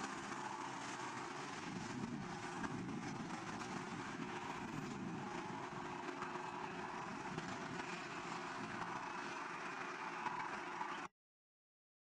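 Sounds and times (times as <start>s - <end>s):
distant jet engines roaring: 0.0s - 11.1s.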